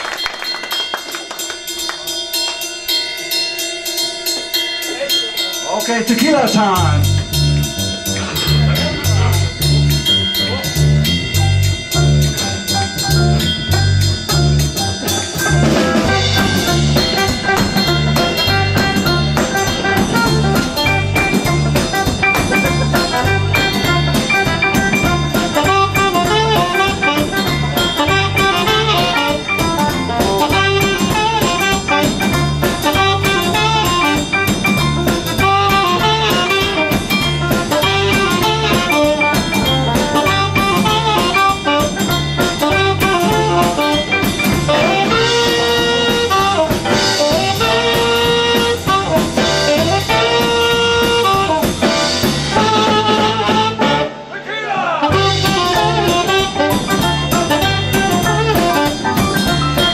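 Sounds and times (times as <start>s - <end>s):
drum beat: 6.2s - 54.2s, 55.1s - 59.9s
saxophone lead: 6.7s - 54.3s, 55.0s - 59.9s
electric guitar: 7.0s - 54.2s, 55.1s - 59.9s.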